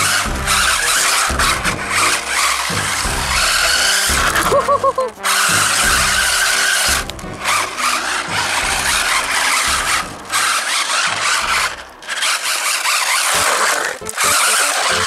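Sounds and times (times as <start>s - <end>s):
hissing tyre scrub: 0.0s - 15.0s.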